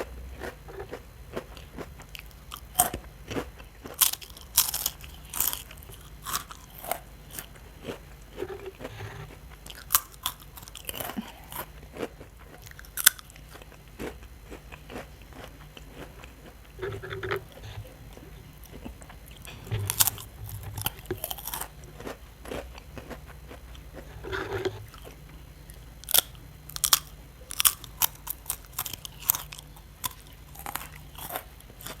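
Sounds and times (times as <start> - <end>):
soft chewing: 0.0 - 32.0.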